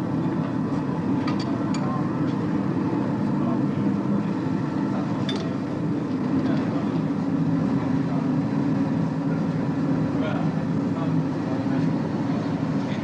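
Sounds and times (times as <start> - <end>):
mechanical drone: 0.0 - 13.0.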